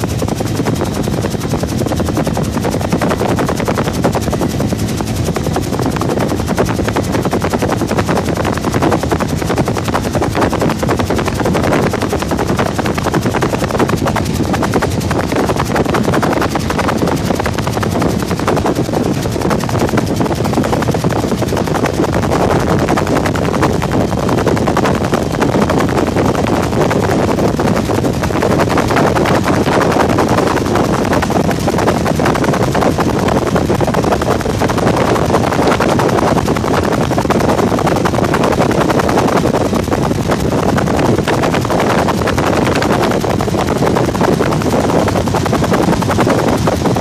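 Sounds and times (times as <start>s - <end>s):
helicopter rotor and engine noise: 0.0s - 47.0s.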